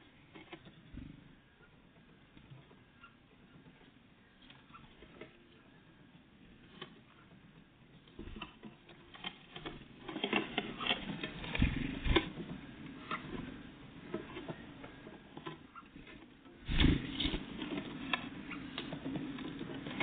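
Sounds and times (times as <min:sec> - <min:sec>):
birds pecking at feeder: 0:00.0 - 0:20.0.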